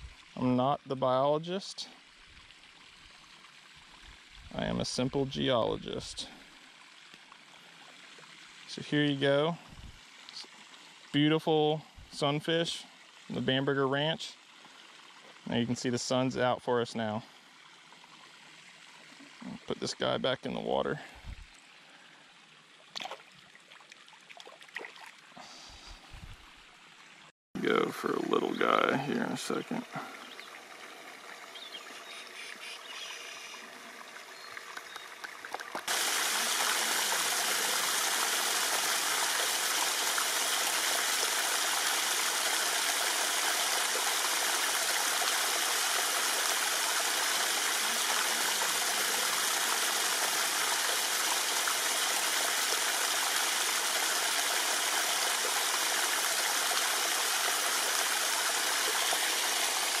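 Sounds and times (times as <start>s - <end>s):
running water rushing: 0.0s - 60.0s.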